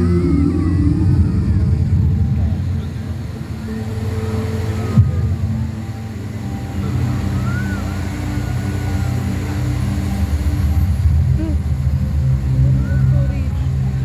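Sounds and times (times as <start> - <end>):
bass-heavy music over speakers: 0.0 - 14.0.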